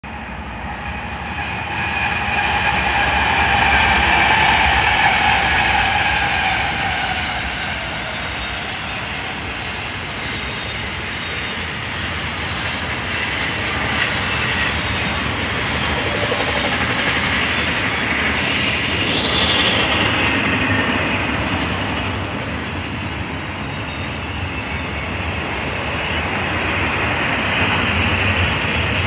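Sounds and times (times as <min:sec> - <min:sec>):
diesel locomotives passing: 0:00.0 - 0:29.0.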